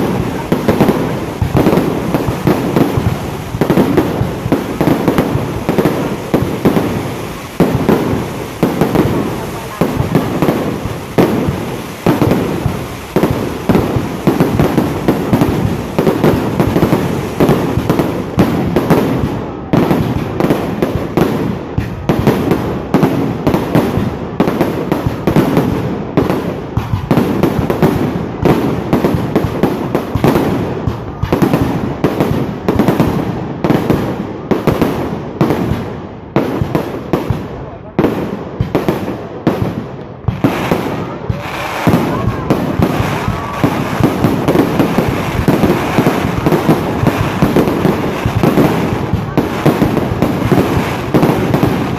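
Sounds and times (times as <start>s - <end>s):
fireworks banging: 0.0s - 51.9s.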